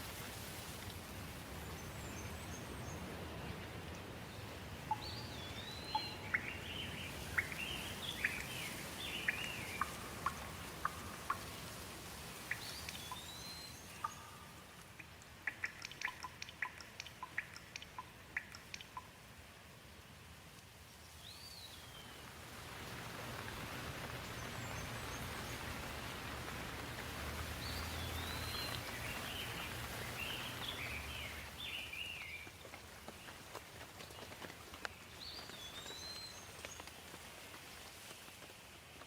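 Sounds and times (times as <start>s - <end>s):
steady rain falling: 0.0s - 39.0s
songbirds chirping: 0.8s - 39.0s.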